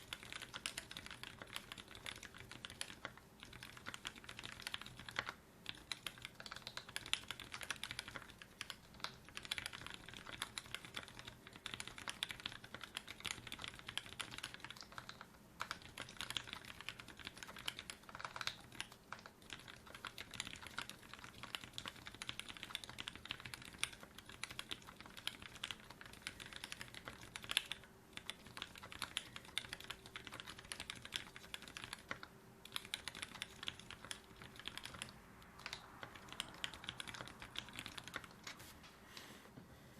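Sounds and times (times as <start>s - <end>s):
fast typing on mechanical keyboard: 0.0s - 38.5s.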